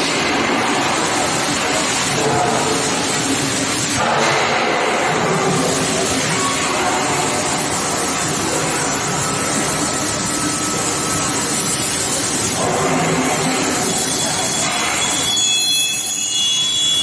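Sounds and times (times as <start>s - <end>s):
industrial hiss and rumble: 0.0s - 16.3s.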